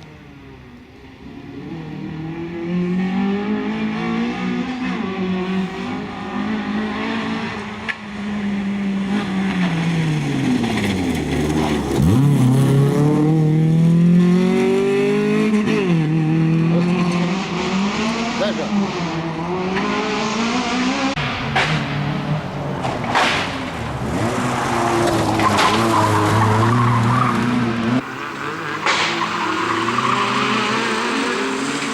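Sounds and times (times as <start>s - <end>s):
rally car engine revving: 1.2s - 31.9s.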